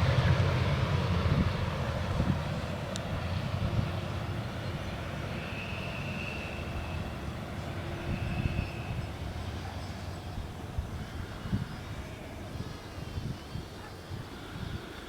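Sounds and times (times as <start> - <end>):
diesel railcar rumbling: 0.0 - 15.0.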